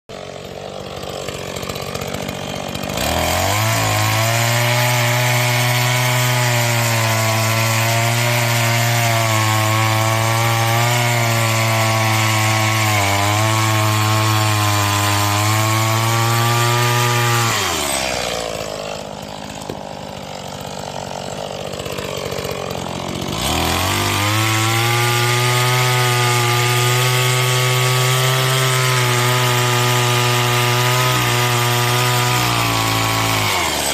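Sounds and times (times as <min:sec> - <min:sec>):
chainsaw revving and cutting wood: 0:00.1 - 0:33.9.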